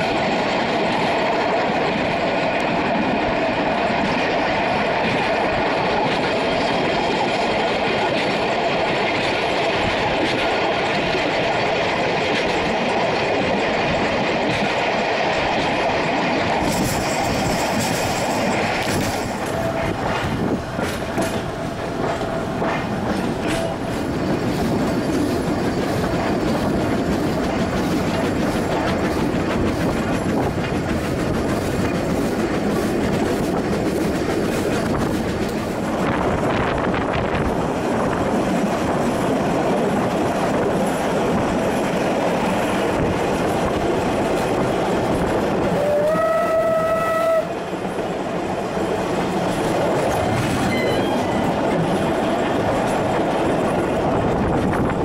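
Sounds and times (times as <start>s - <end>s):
clickety-clack of rail joints: 0.0s - 55.0s
train wheels rumbling on rail: 0.0s - 55.0s.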